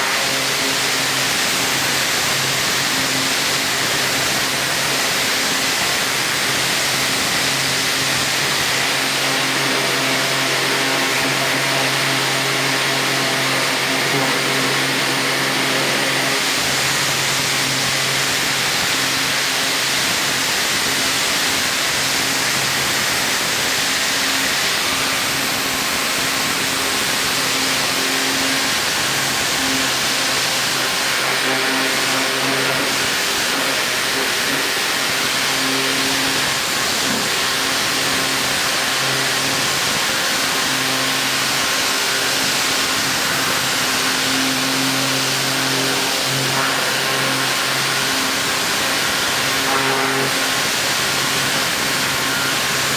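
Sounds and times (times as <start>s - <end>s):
pressure washer water jet hissing: 0.0s - 52.9s
washer motor and pump humming: 0.0s - 52.9s.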